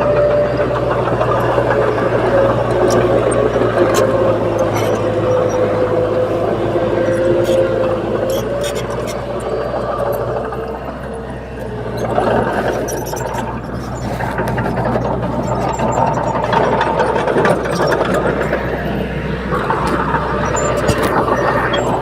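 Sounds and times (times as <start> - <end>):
bulldozer diesel engine under load: 0.0 - 22.0
sharp clicks and clanks: 0.0 - 22.0.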